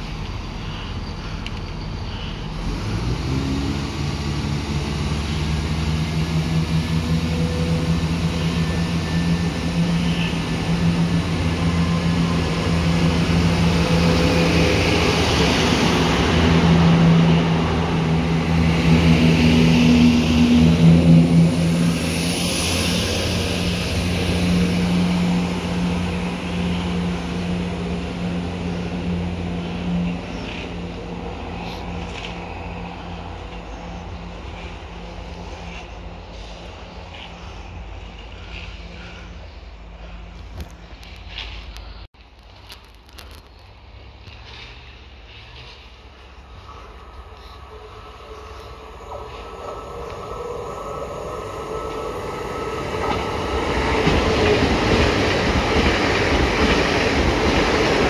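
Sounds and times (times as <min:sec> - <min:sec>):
rail noise: 0:00.0 - 0:58.0
train engine drone: 0:00.0 - 0:58.0.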